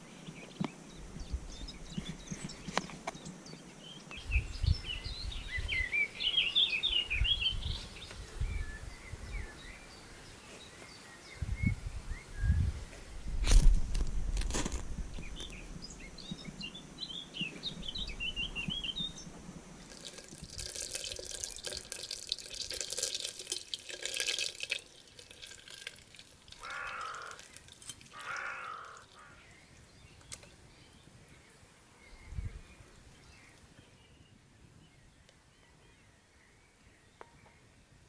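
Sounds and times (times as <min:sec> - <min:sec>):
small birds chirping: 0:00.0 - 0:13.2, 0:19.9 - 0:38.0.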